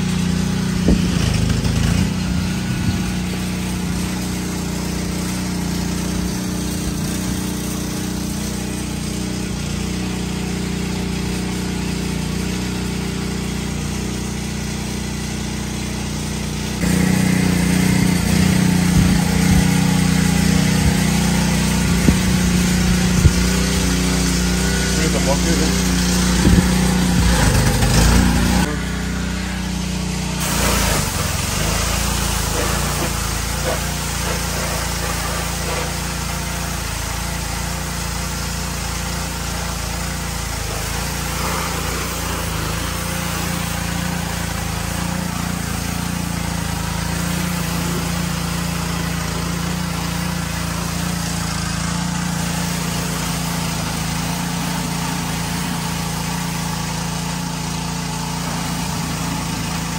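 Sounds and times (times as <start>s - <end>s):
pressure washer motor hum: 0.0s - 59.9s
water jet spraying: 0.0s - 59.9s.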